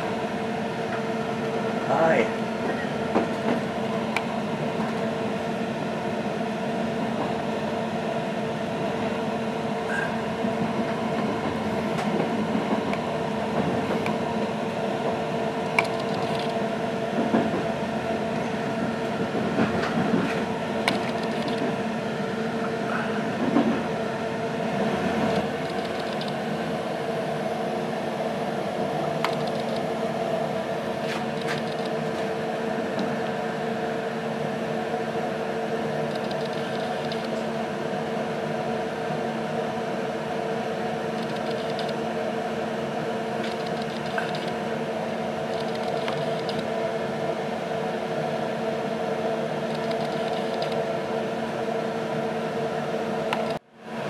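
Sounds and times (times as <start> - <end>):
train carriage running hum: 0.0 - 54.0.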